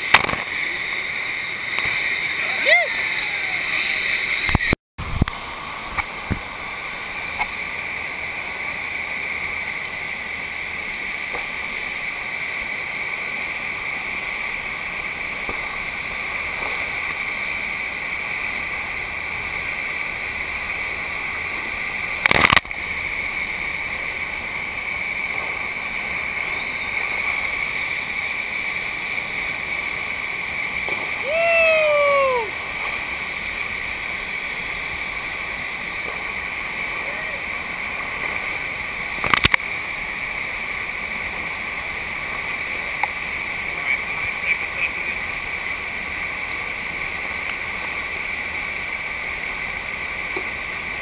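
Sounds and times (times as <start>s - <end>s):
water rushing over wave machine: 0.0s - 51.0s.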